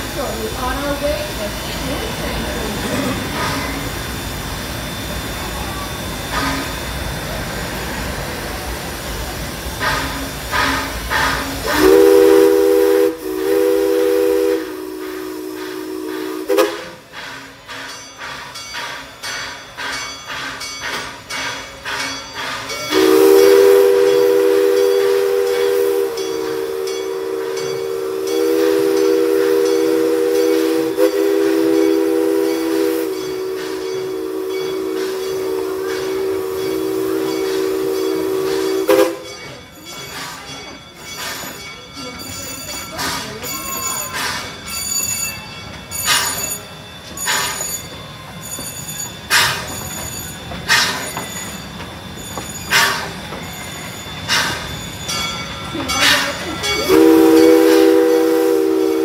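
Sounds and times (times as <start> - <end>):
steam locomotive chime whistle: 0.0 - 7.3, 8.4 - 59.0
steam engine puffing: 0.0 - 39.2, 48.8 - 59.0.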